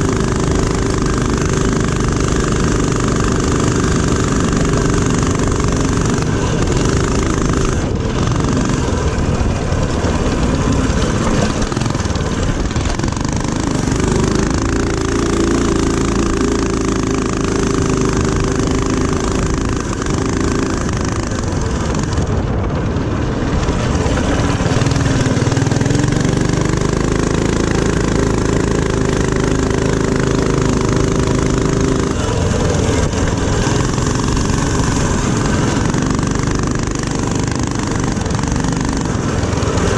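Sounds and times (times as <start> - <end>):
small motorbike engine revving: 0.0 - 39.9
wind and road noise: 0.0 - 39.9.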